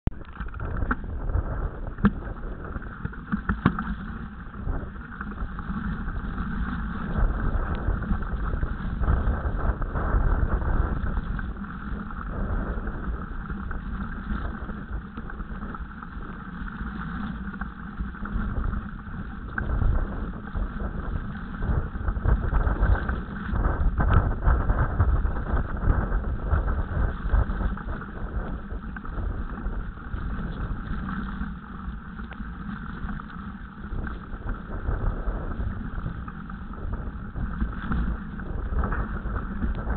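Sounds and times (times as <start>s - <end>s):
wind and rolling noise: 0.0s - 39.9s.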